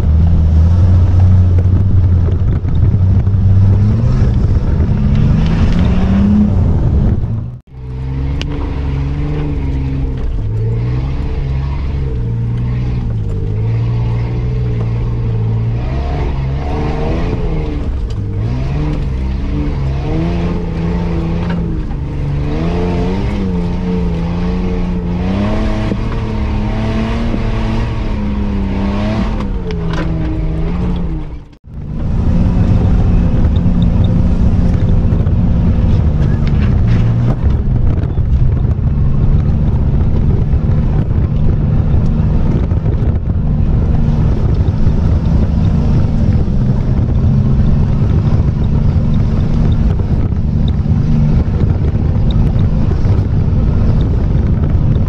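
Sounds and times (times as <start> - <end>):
off-road engine revving inside cab: 0.0 - 55.0
second off-road engine running: 0.0 - 55.0.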